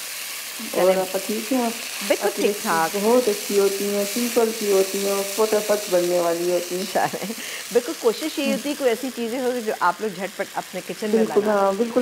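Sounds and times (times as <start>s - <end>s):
garlic sizzling in hot oil: 0.0s - 12.0s
woman talking: 0.6s - 12.0s.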